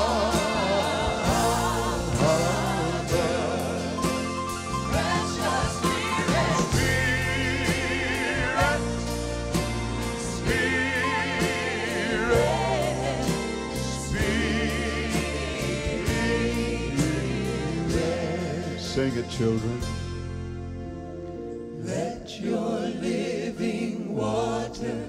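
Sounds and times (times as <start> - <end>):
vocal group singing in harmony: 0.0 - 19.7, 21.7 - 25.0
band accompaniment: 0.0 - 21.7
grand piano: 0.0 - 25.0.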